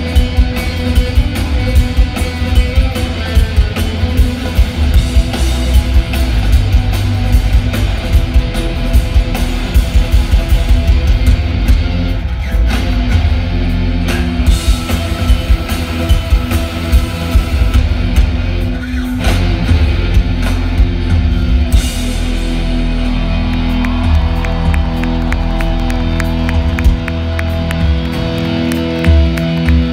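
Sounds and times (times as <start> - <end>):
bass guitar: 0.0 - 29.9
distorted electric guitars: 0.0 - 29.9
drums: 0.0 - 29.9.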